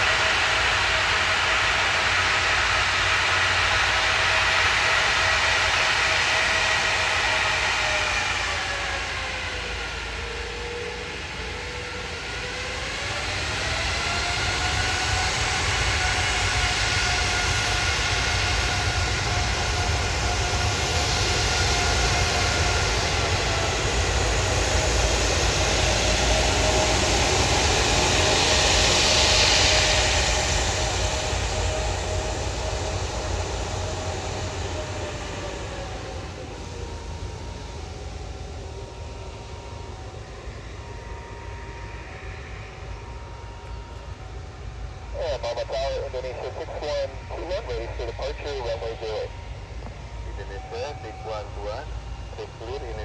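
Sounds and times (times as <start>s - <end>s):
jet engines whining: 0.0s - 53.0s.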